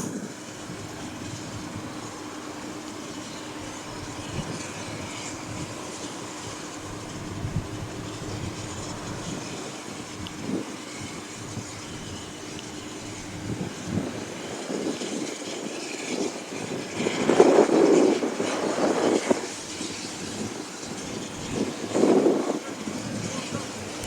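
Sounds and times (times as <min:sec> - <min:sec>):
train running on track: 0:00.0 - 0:24.0.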